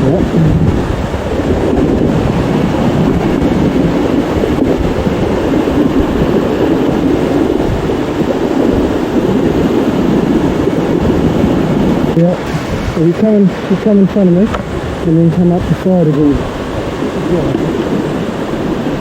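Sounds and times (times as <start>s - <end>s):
river rushing over boulders: 0.0s - 19.0s.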